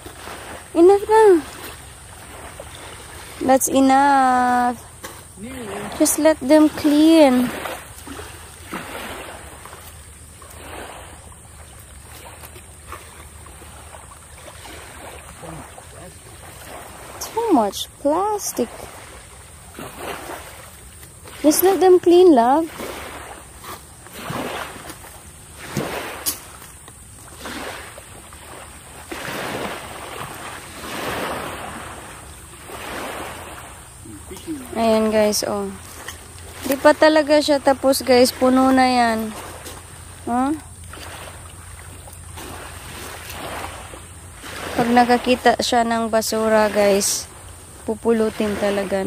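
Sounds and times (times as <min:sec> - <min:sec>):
sea waves washing ashore: 0:00.0 - 0:49.0.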